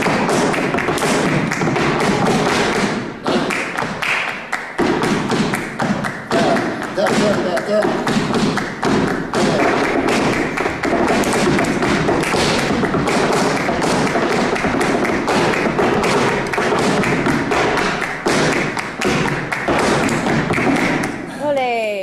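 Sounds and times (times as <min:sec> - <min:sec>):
dance footwork on stage floor: 0:00.0 - 0:21.3
rhythmic hand clapping: 0:00.0 - 0:22.0.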